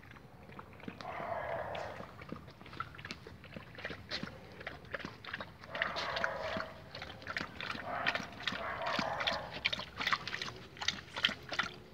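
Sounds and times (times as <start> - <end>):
dog eating from bowl: 0.0 - 11.9.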